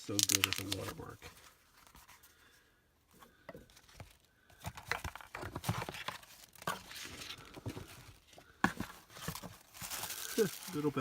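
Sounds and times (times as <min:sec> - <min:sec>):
packaging rustling and crinkling: 0:00.0 - 0:02.4, 0:03.7 - 0:11.0.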